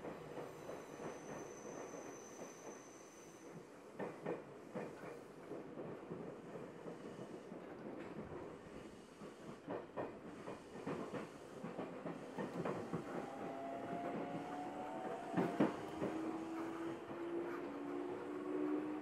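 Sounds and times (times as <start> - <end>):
train wheels clicking over joints: 0.0 - 19.0.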